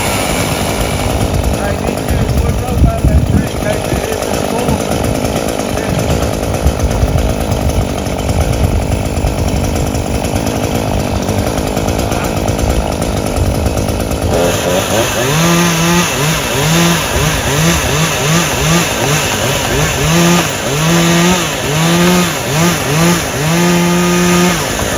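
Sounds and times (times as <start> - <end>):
chainsaw cutting wood: 0.0 - 24.9.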